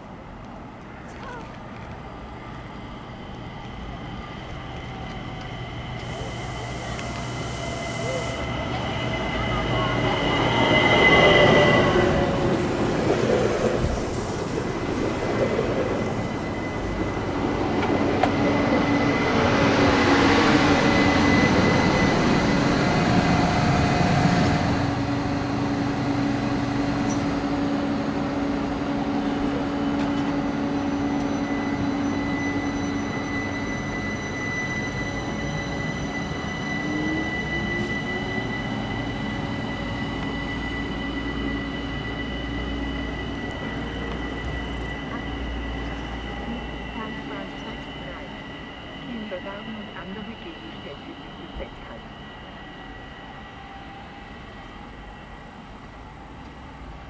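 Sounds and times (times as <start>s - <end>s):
electric train hum and whine: 0.0s - 57.0s.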